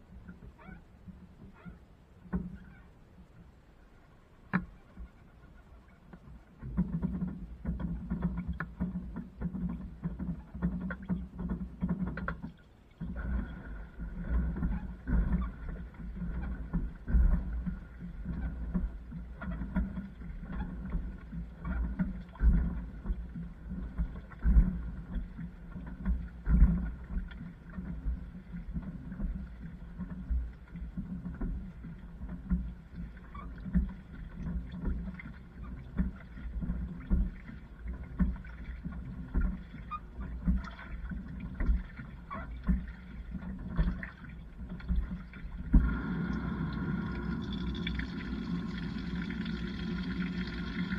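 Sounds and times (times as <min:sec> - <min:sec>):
water sloshing: 0:04.5 - 0:50.9.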